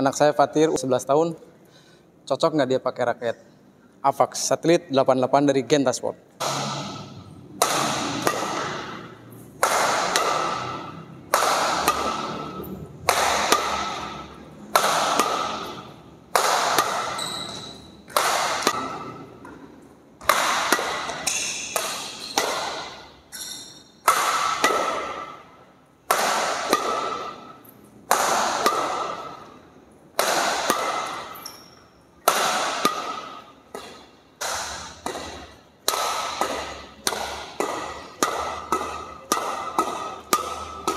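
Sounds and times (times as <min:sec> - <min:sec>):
racket hitting shuttlecock: 0:06.4 - 0:40.9.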